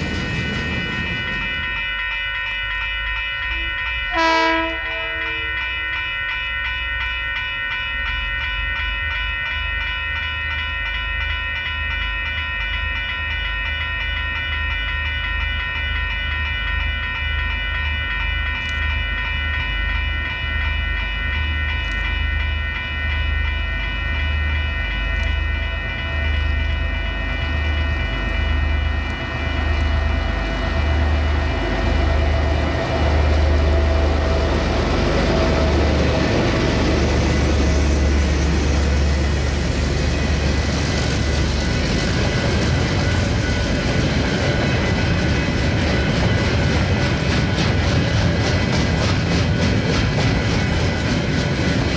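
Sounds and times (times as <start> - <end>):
freight locomotive rumble and whine: 0.0 - 51.9.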